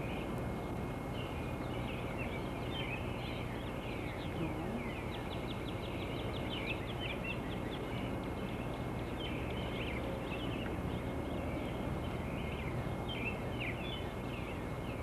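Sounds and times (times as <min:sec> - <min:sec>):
songbirds chirping: 0:00.0 - 0:15.0
steady low hiss: 0:00.0 - 0:15.0.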